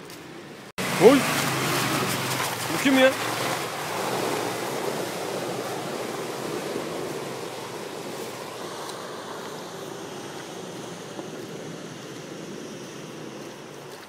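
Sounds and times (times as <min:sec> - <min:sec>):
vehicle engine and tyre noise: 0:00.0 - 0:14.0.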